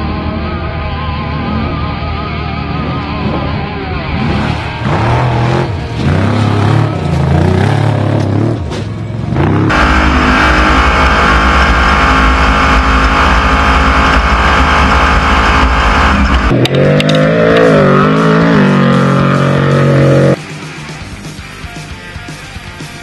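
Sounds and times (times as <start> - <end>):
truck engine revving hard: 1.2 - 20.4.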